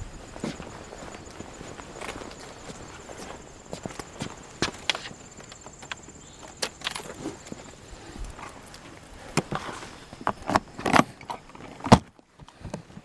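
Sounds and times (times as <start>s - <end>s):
footsteps on asphalt: 0.0s - 10.6s.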